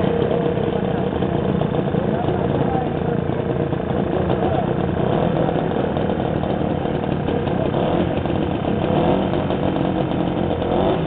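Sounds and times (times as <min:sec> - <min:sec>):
two-stroke motorcycle engine idling: 0:00.0 - 0:11.0.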